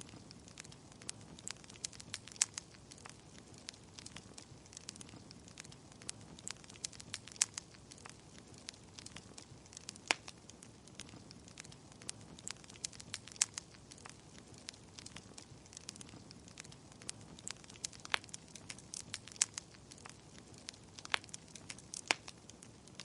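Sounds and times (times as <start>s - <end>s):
fire rumble and hiss: 0.0s - 23.0s
sharp pops of fire: 0.0s - 23.0s
wood fire crackling: 0.0s - 23.0s.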